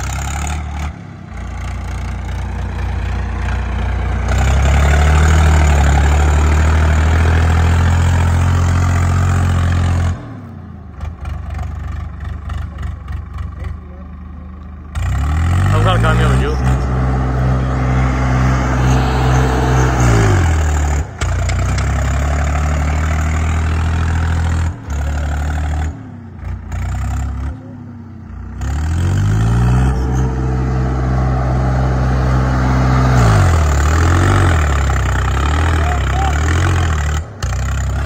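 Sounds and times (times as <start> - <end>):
tractor diesel engine revving: 0.0 - 38.0.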